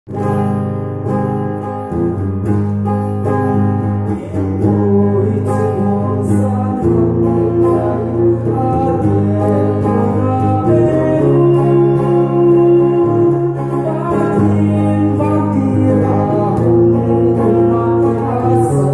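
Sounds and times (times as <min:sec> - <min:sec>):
electric guitar playing: 0:00.1 - 0:18.9.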